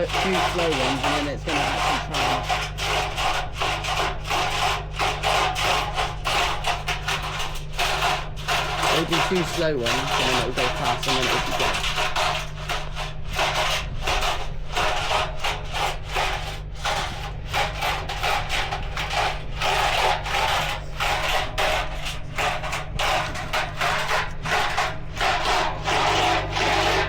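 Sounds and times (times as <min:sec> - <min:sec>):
load scraping in drum: 0:00.0 - 0:27.0
washing machine motor humming: 0:00.0 - 0:27.0.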